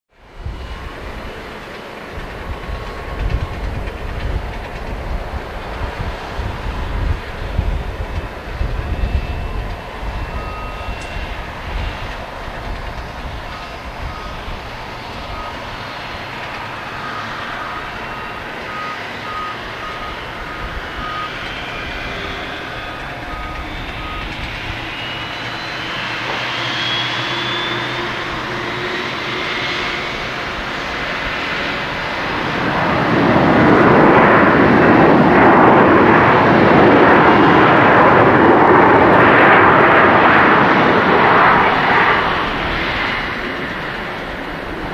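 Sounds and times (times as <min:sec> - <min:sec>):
jet engine whine: 0:00.1 - 0:44.9
reverse thrust engine rush: 0:00.2 - 0:44.9.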